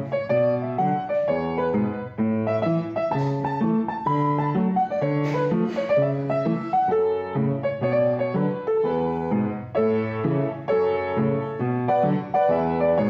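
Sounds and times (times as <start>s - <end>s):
calm piano music: 0.0s - 13.0s.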